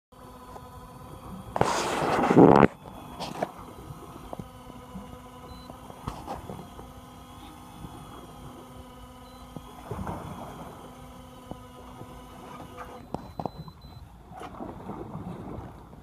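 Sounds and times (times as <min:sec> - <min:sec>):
motor hum: 0:00.1 - 0:16.0.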